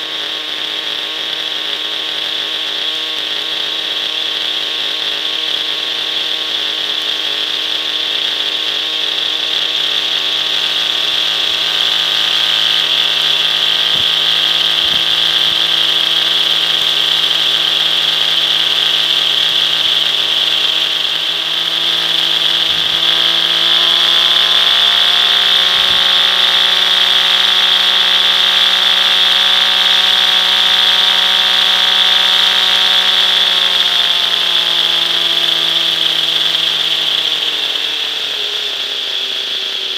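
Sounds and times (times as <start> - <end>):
rotor head spinning: 0.0 - 39.7
model engine high whine: 0.0 - 39.9.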